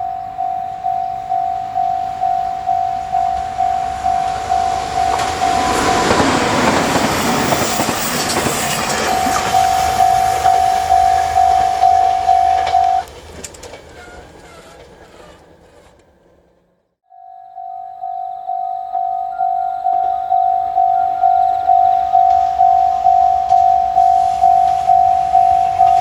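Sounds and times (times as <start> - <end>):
level crossing warning bell: 0.0 - 15.5, 17.1 - 26.0
train wheels clicking over rail joints: 0.2 - 16.6, 19.9 - 26.0.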